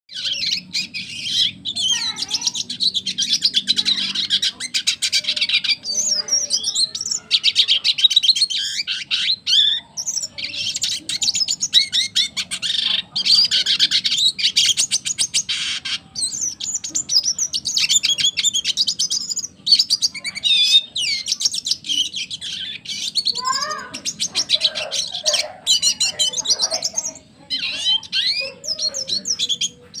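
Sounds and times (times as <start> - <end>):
bird twittering song: 0.1 - 30.0.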